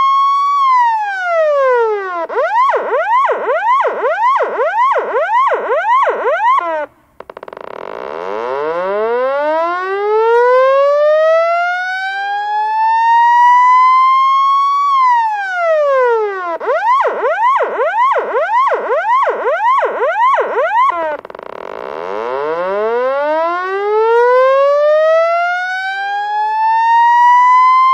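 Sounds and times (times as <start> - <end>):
police siren wailing and yelping: 0.0 - 6.9, 8.3 - 27.9.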